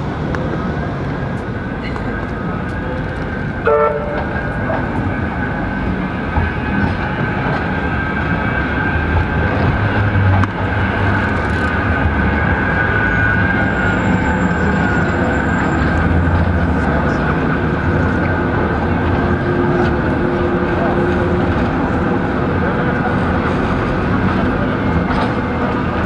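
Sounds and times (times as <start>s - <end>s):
city street bustle: 0.0s - 26.0s
tram electric whine: 0.0s - 26.0s.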